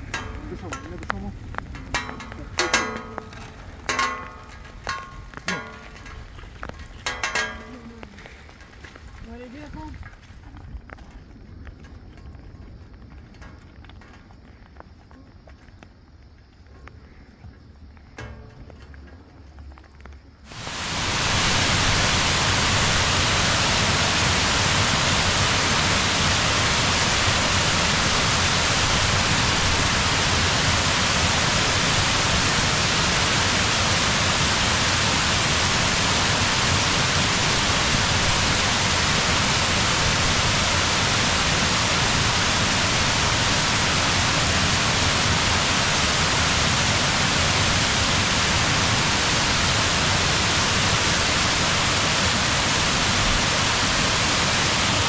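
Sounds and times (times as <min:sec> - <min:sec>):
floodwater rushing over rocks: 0:00.0 - 0:11.1, 0:20.4 - 0:55.0.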